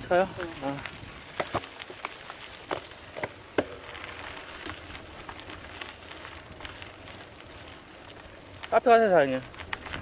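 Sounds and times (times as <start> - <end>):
tyres crunching on dirt: 0.0 - 10.0
bike clicks and knocks: 0.6 - 10.0.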